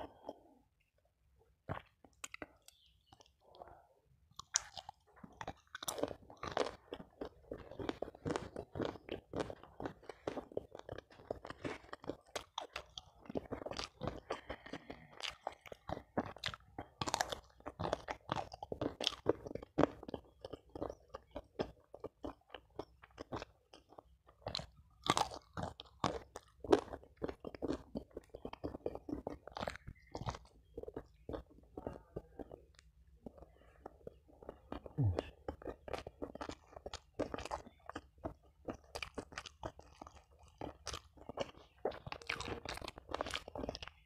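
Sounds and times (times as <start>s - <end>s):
crunchy wet chewing: 0.0s - 44.0s.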